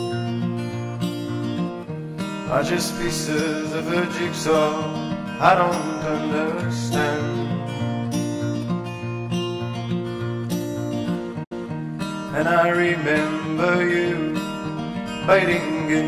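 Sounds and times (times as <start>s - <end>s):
acoustic guitar strummed chords: 0.0s - 16.0s
wavering guitar lead melody: 0.0s - 16.0s.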